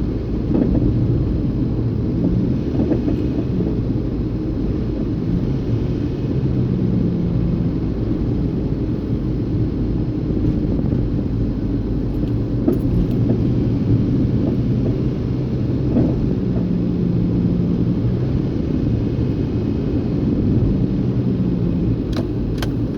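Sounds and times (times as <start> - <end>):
road noise: 0.0 - 22.9
van engine rumble: 0.0 - 22.9.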